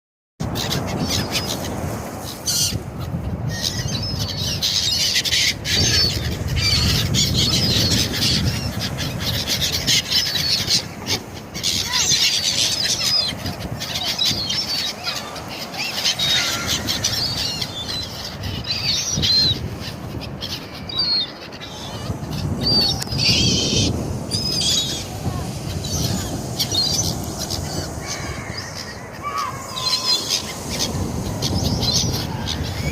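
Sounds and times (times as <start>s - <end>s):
gulls calling: 0.4s - 32.9s.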